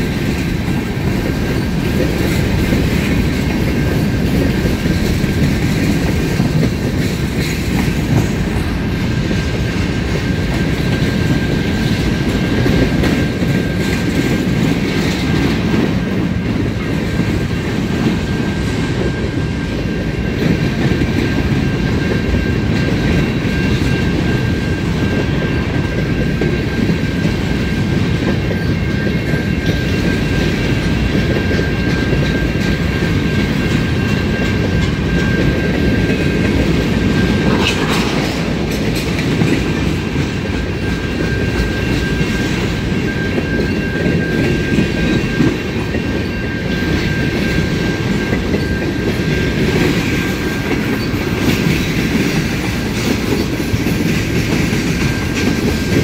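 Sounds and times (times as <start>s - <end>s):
train wheels clacking over rail joints: 0.0s - 56.0s.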